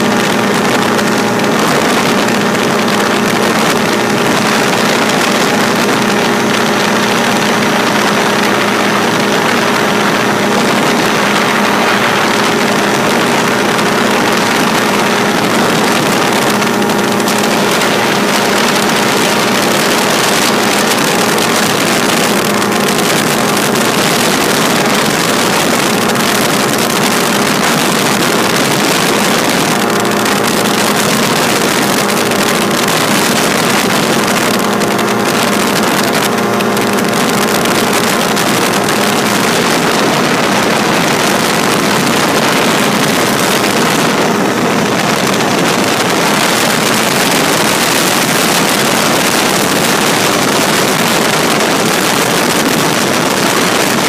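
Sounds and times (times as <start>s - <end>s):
ultralight aircraft engine drone: 0.0s - 54.0s
wind rush over microphone: 0.0s - 54.0s.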